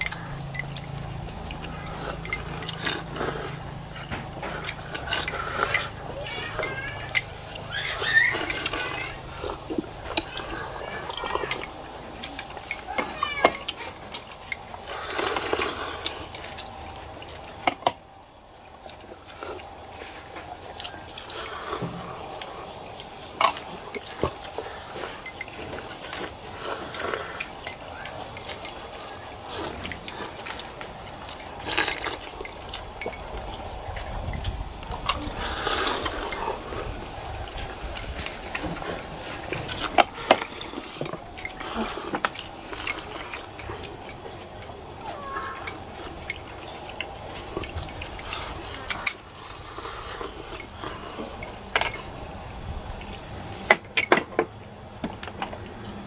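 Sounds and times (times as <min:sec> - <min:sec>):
people slurping noodles: 0:00.0 - 0:18.1, 0:18.8 - 0:53.8
chopsticks clicking on bowls: 0:00.0 - 0:52.2.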